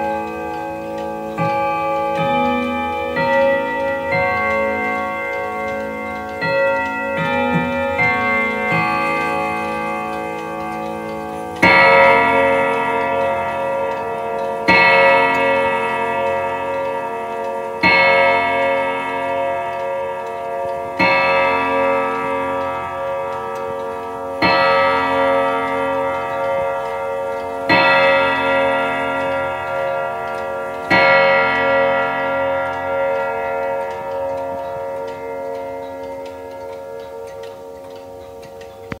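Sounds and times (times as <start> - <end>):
clock ticking: 0.0 - 39.0
wall clock striking: 0.0 - 39.0.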